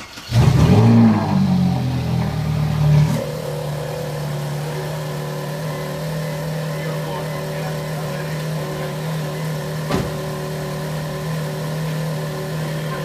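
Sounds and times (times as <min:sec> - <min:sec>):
sports car engine starting and idling: 0:00.0 - 0:13.0.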